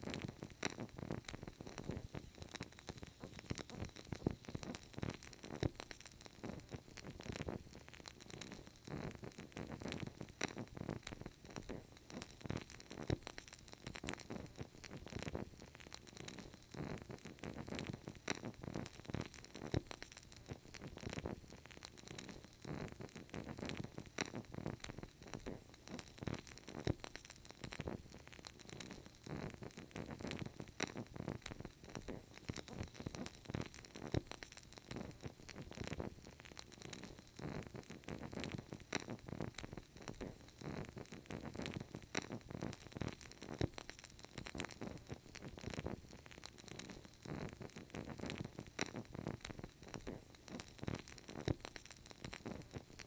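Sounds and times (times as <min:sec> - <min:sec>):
candle crackling: 0:00.0 - 0:53.0.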